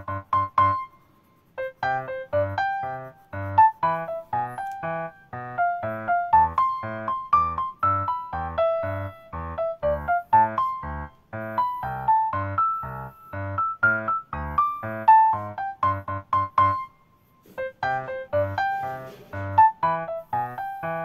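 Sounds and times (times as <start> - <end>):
keyboard melody: 0.0 - 21.0.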